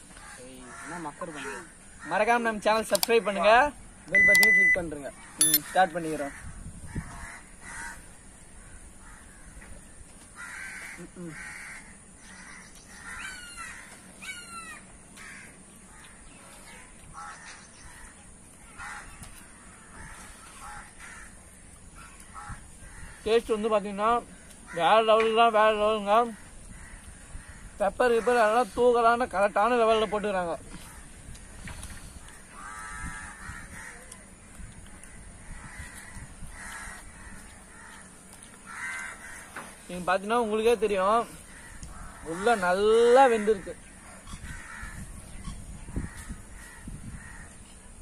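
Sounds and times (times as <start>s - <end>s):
crows cawing: 0.0s - 2.6s, 5.2s - 16.4s, 17.1s - 28.8s, 29.8s - 47.8s.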